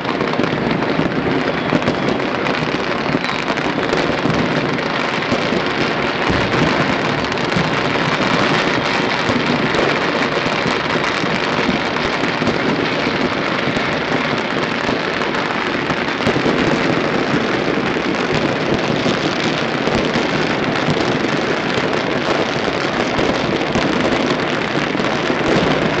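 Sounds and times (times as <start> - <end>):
firecrackers crackling: 0.0 - 26.0.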